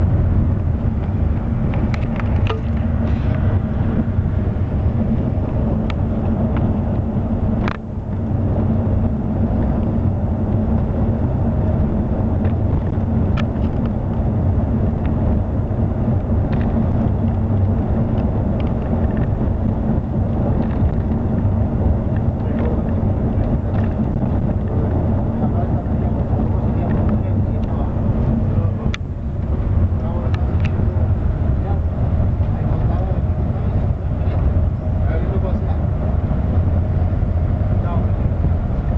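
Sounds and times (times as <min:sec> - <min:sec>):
coach engine and road rumble: 0:00.0 - 0:38.9.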